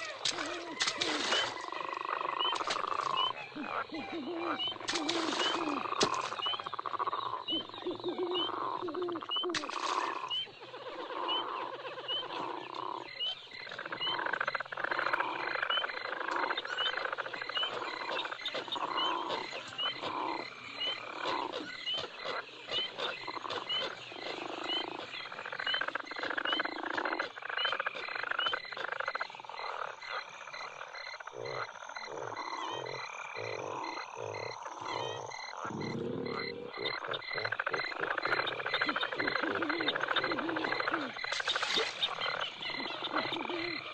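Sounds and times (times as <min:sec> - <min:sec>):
frogs croaking: 0:00.0 - 0:43.9
insects chirping: 0:00.0 - 0:43.9.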